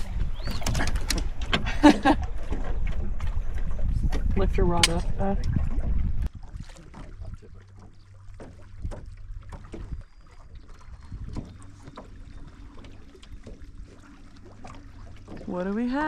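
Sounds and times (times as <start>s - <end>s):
boat engine low hum: 0.0s - 16.0s.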